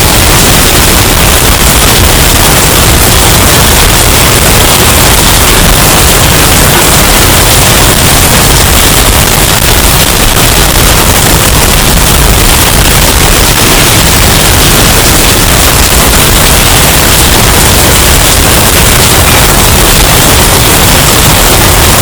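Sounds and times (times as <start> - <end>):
distorted hurricane wind: 0.0 - 22.0.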